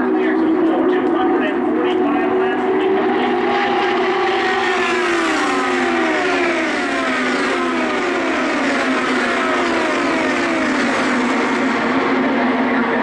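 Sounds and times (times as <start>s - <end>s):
race cars passing: 0.0s - 13.0s.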